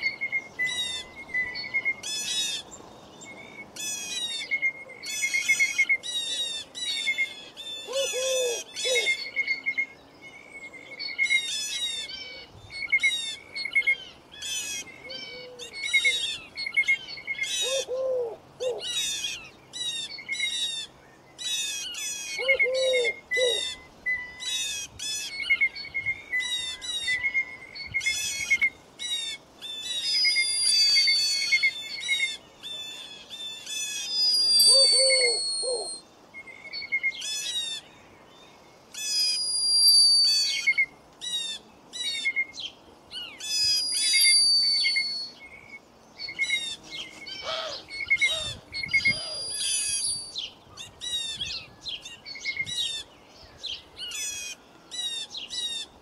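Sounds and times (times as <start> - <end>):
songbirds singing trilled phrases: 0.0 - 56.0.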